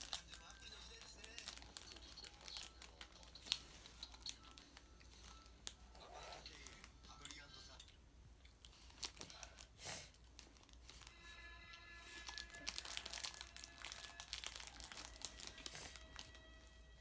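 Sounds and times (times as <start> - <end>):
plastic bag crinkling: 0.0 - 7.8, 8.6 - 11.4, 12.0 - 16.6.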